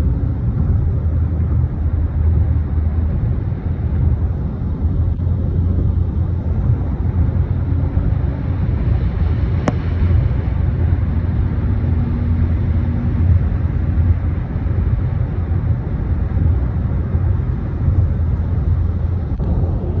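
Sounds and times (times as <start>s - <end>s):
car driving inside cabin: 0.0s - 20.0s.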